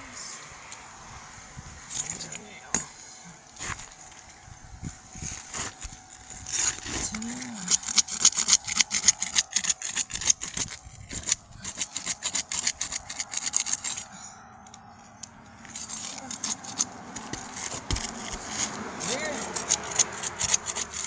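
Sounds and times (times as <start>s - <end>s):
shingles crackling and scraping: 0.0s - 21.0s.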